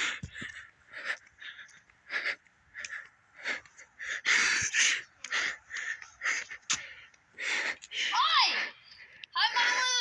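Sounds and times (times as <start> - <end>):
person panting hard: 0.0 - 10.0.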